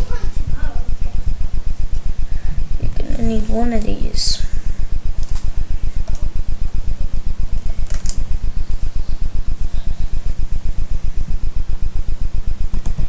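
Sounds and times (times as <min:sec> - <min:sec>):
pulsing low hum: 0:00.0 - 0:13.0.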